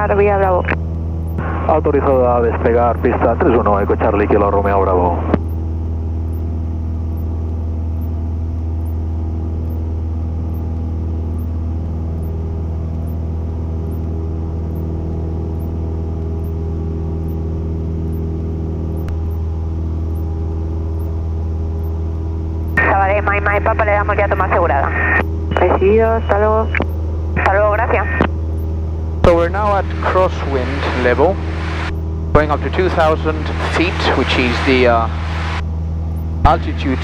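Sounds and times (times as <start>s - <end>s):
small plane engine droning: 0.0s - 37.0s.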